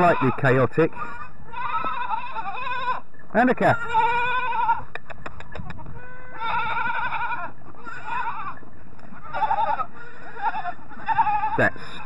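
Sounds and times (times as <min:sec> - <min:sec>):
goats bleating: 0:00.0 - 0:05.0, 0:05.8 - 0:12.0.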